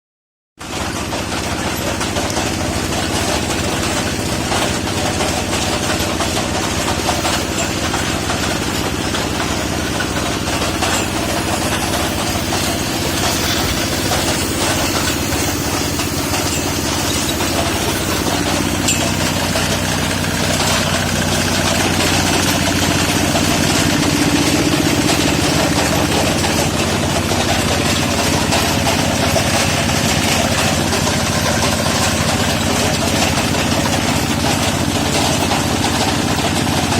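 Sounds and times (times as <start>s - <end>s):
machine motor humming: 1.6s - 36.9s.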